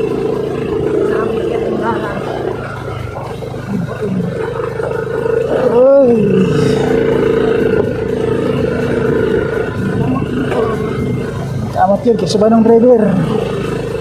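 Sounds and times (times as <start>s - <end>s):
scooter engine running: 0.0s - 14.0s.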